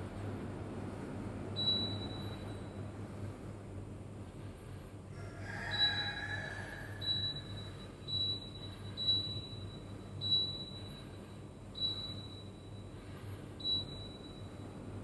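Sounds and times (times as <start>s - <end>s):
air conditioner hum: 0.0s - 15.0s.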